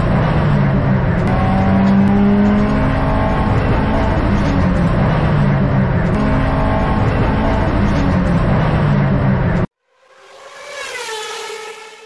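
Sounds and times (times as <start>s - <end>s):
car engine pulling hard: 0.0s - 9.7s.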